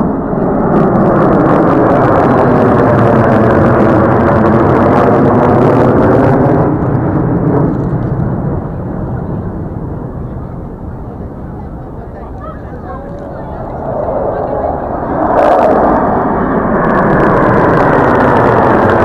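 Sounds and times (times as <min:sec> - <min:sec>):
jet engines flying overhead: 0:00.0 - 0:19.0.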